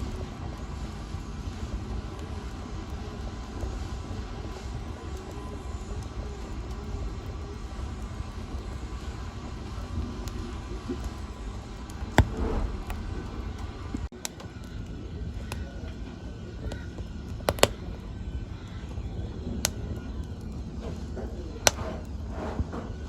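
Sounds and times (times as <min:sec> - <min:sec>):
loud pops from fire: 0:00.0 - 0:23.0
wood fire crackling: 0:00.0 - 0:23.0.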